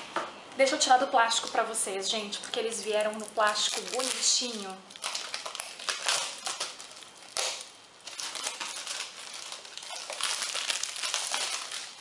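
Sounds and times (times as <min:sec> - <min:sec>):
plastic shrink wrap crinkling: 0:01.3 - 0:12.0.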